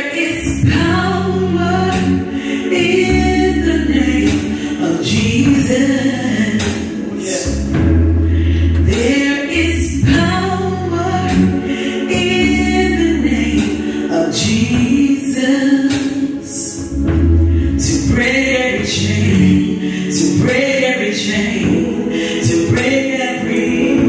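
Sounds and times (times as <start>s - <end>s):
gospel group singing: 0.0s - 24.0s
low sustained bass notes: 0.2s - 24.0s.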